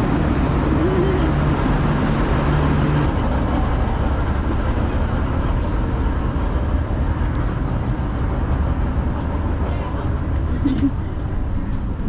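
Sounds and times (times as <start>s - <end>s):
vehicle rumbling in motion: 0.0s - 12.0s.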